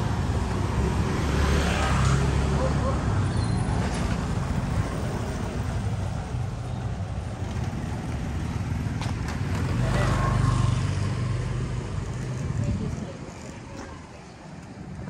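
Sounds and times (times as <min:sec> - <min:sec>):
motor scooter engines running: 0:00.0 - 0:15.0.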